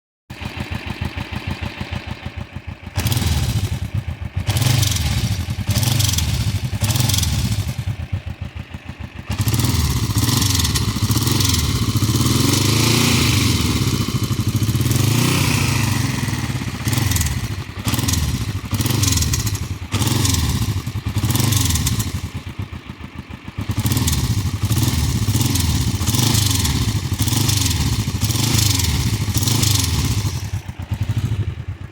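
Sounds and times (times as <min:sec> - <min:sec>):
motorcycle engine running: 0:00.3 - 0:31.9.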